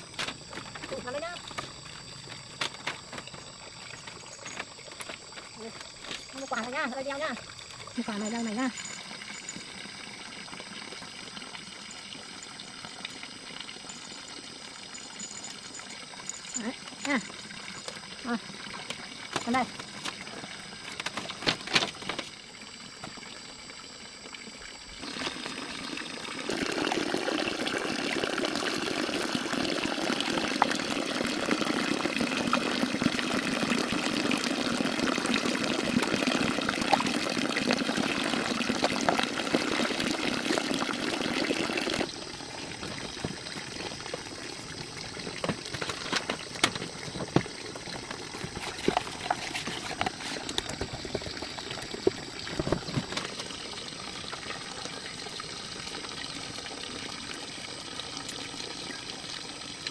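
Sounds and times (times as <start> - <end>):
water pouring: 0.0 - 59.9
water trickling: 0.0 - 59.9.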